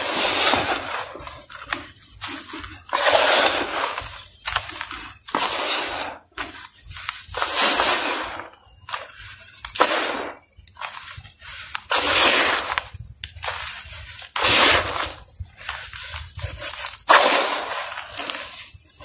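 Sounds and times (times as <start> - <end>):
hands crumbling dry powder: 0.0 - 19.0.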